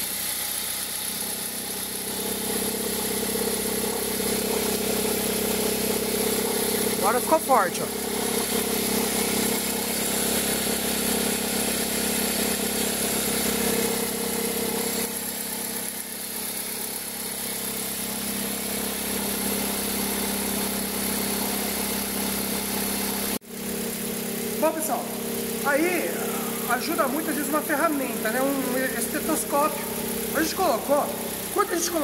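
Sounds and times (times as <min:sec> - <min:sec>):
car engine hum with pitched tone: 0:00.0 - 0:32.0.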